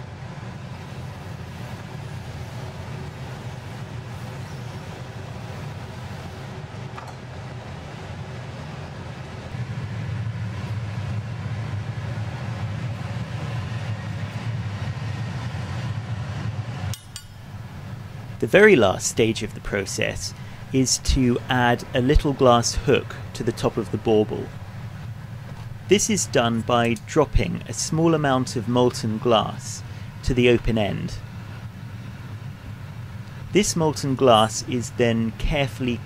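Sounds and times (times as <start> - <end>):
machinery rumbling hum: 0.0 - 36.0.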